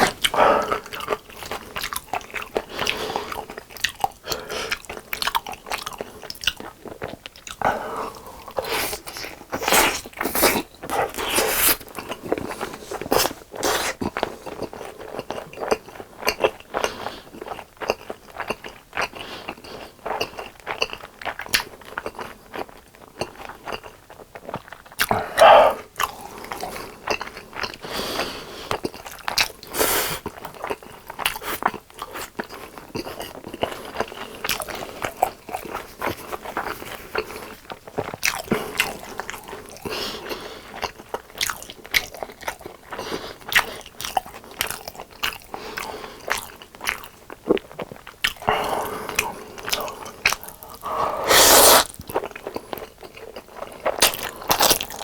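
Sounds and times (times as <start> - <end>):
crunching and chewing fried chicken: 0.0 - 55.0.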